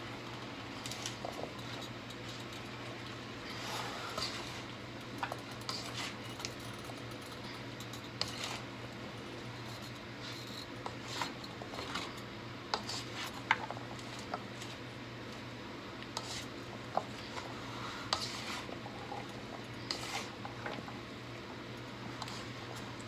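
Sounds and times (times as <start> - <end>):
utensil clinking and scraping in pan: 0.7 - 14.8, 16.2 - 21.0.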